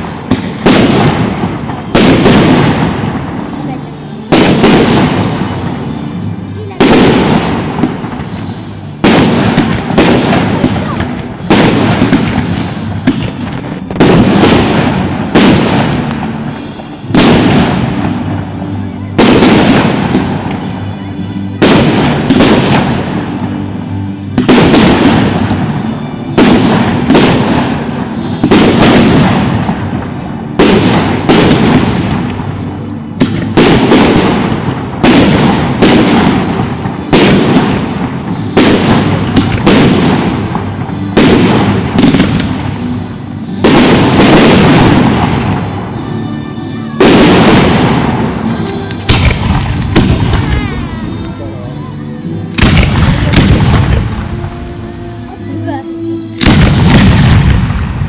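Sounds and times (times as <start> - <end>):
fireworks bursting: 0.0 - 58.0
rumbling echo: 0.0 - 58.0.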